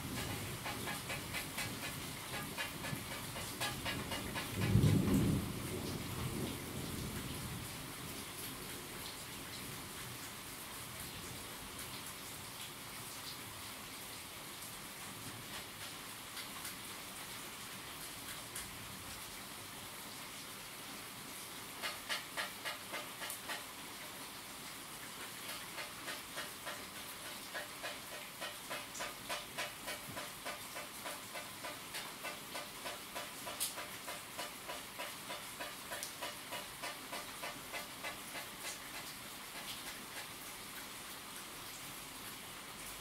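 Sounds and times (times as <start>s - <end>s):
steady rain hiss: 0.0s - 43.0s.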